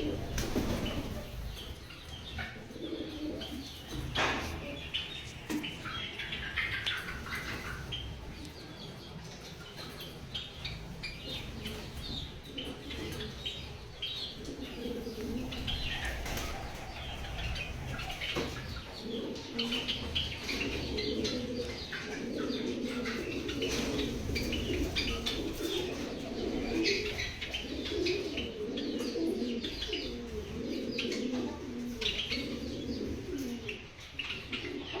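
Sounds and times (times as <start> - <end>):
sparrows chirping: 0.0 - 35.0.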